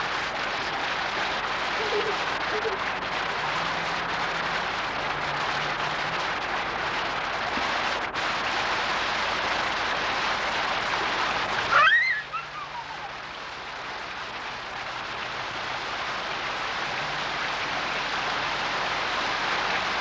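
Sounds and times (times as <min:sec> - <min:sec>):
fountain jets splashing: 0:00.0 - 0:20.0.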